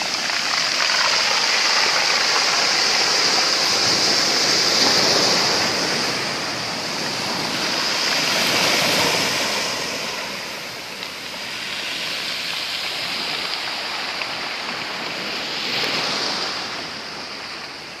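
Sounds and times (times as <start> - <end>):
waves washing onto stony beach: 0.0 - 18.0.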